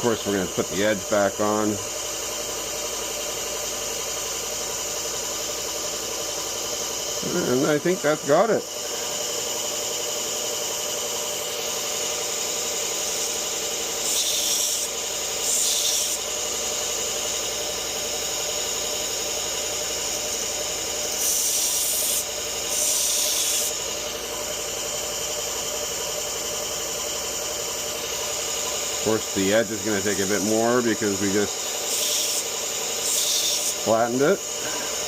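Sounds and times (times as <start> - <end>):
blade hissing on grinder: 0.0 - 35.0
sharpening grinder running: 0.0 - 35.0.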